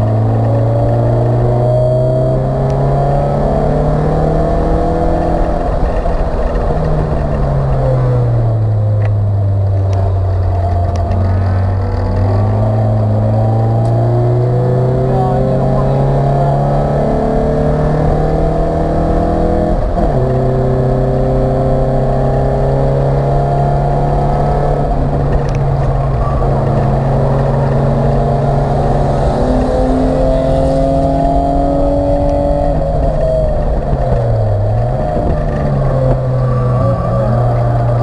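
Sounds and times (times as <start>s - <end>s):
race car engine accelerating: 0.0s - 38.0s.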